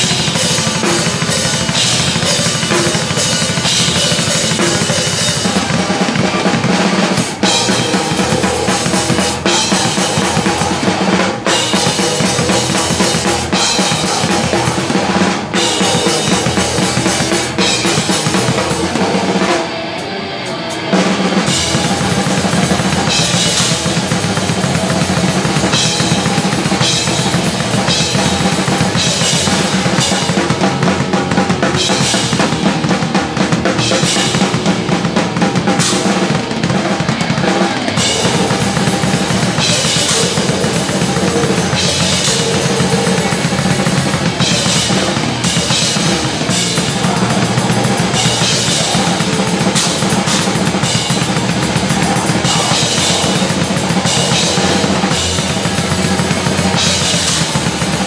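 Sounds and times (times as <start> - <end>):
metal band playing: 0.0 - 58.0.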